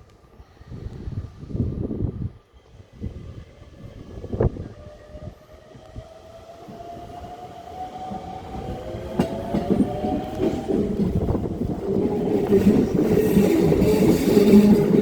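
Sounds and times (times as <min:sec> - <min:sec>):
train wheels rumbling: 0:02.8 - 0:15.0.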